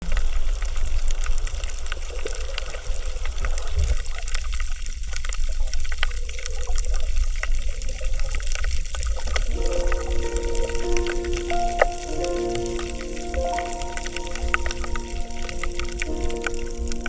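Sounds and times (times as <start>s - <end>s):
low rumble of moving water: 0.0s - 17.0s.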